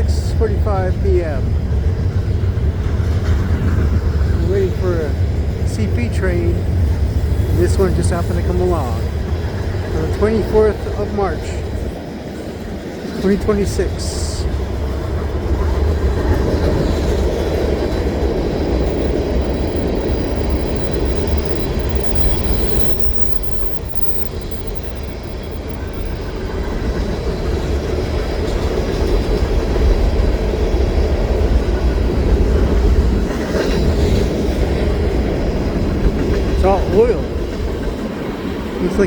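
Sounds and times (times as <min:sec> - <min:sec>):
freight train rolling past: 0:00.0 - 0:39.0.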